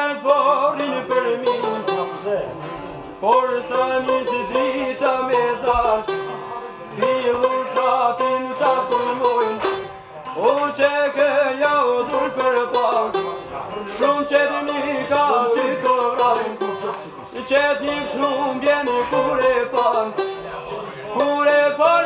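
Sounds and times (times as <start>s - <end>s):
plucked lutes playing folk melody: 0.0s - 22.0s.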